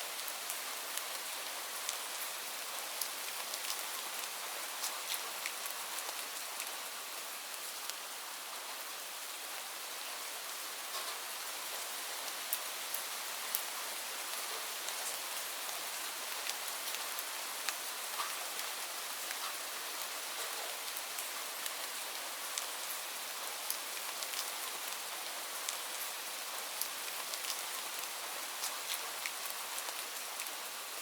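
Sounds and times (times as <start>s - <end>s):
rain drops ticking on a surface: 0.0s - 31.0s.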